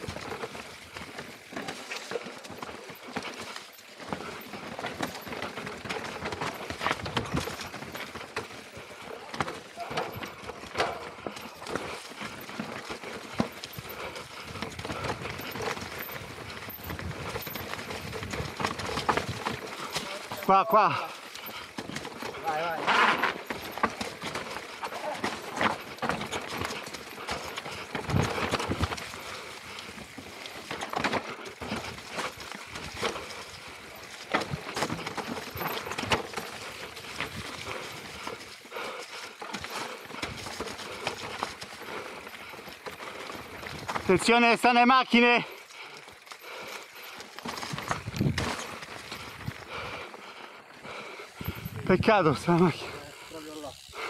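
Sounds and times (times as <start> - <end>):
bike knocking and clattering on rocks: 0.0 - 53.9
tyres crunching over leaves and stones: 0.0 - 54.0.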